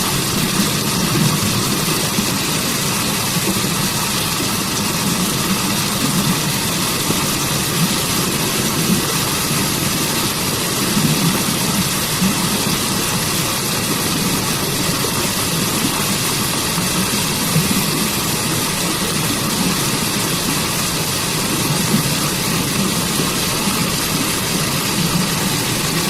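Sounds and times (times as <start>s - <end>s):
waterfall rushing roar: 0.0s - 26.0s.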